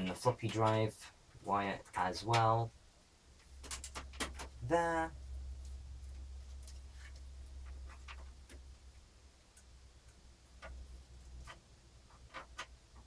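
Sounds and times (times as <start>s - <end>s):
low steady hum: 0.0s - 13.0s
cables and connectors clicking: 0.1s - 2.7s, 3.4s - 4.8s, 5.6s - 13.0s.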